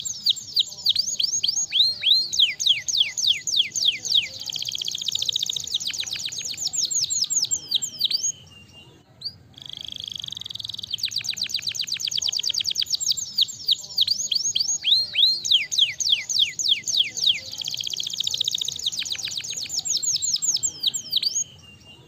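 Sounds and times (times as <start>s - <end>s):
canary singing rapid trills: 0.0s - 22.0s.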